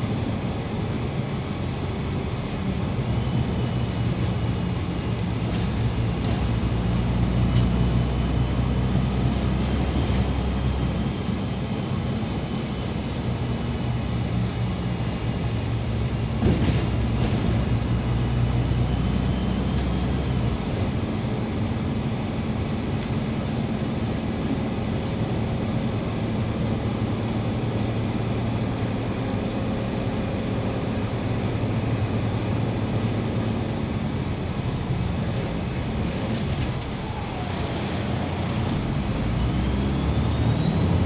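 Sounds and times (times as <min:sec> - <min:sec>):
bus engine drone: 0:00.0 - 0:41.0
road noise: 0:00.0 - 0:41.0.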